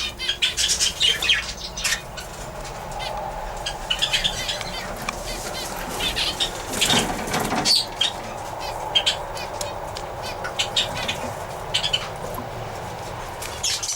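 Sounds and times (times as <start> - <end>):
small birds chirping: 0.0 - 13.9
wings flapping: 0.0 - 13.9.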